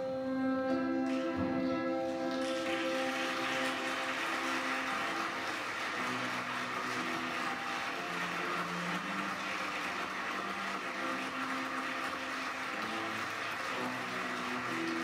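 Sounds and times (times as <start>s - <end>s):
slow music with low held notes: 0.0s - 15.0s.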